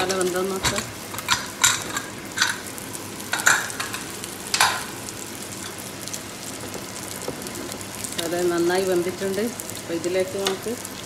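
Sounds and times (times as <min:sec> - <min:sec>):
masala sizzling in a pot: 0:00.0 - 0:11.0.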